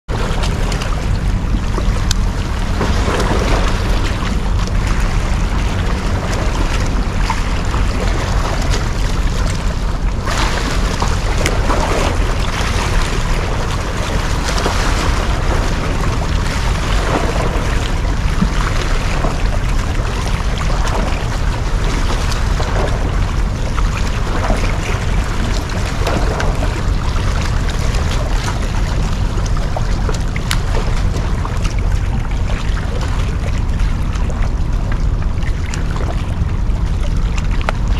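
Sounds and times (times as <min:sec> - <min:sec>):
steady low rumble: 0:00.0 - 0:37.9
water washing around boat: 0:00.1 - 0:37.9.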